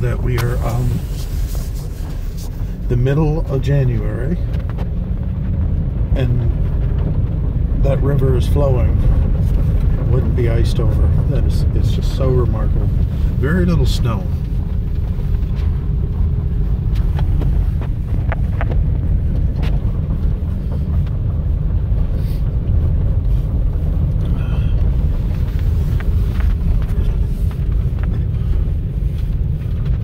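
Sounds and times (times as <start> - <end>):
vehicle engine and tyres rumbling: 0.0 - 30.0.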